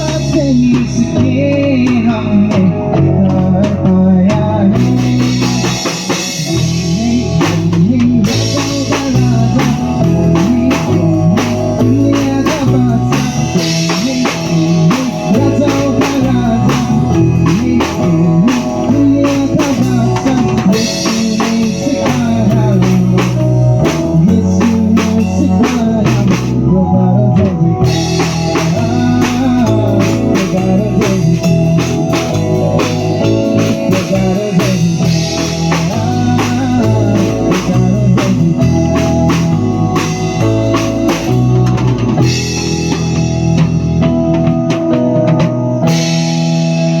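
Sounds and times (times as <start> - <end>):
drum kit steady beat: 0.0 - 47.0
instrumental band playing: 0.0 - 47.0.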